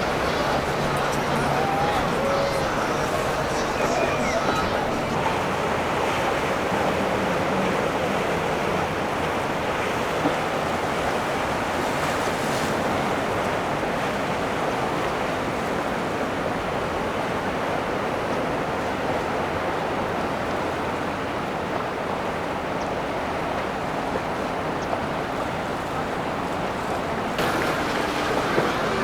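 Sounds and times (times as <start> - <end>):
moving water: 0.0 - 29.0.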